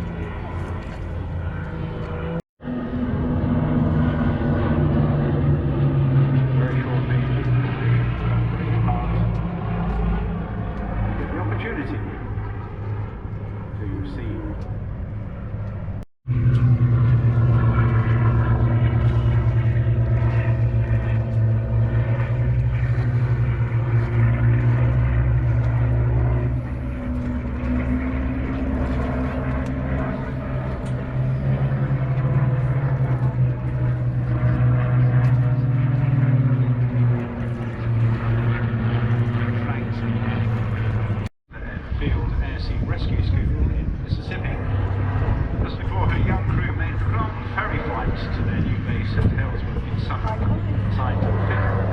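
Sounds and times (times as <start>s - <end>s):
propeller aircraft engine droning: 0.0s - 51.9s.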